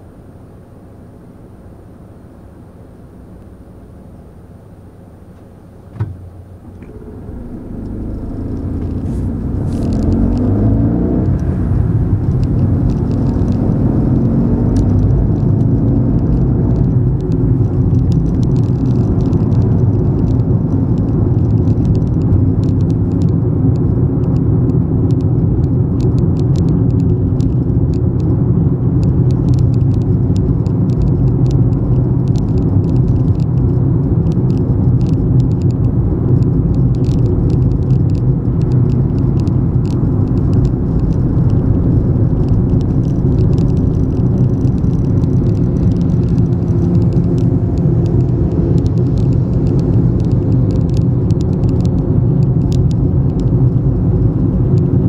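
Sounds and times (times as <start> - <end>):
tyre road noise: 0.0 - 55.0
car engine accelerating: 5.3 - 55.0.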